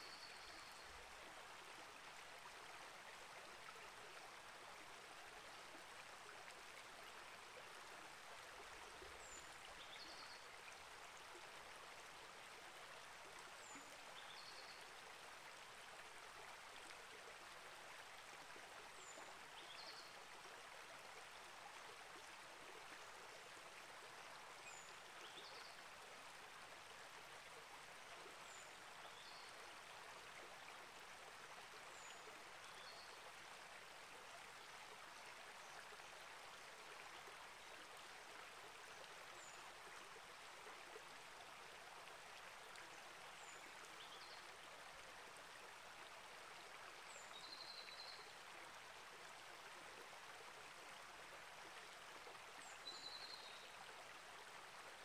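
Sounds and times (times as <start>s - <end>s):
creek flowing: 0.0s - 55.0s.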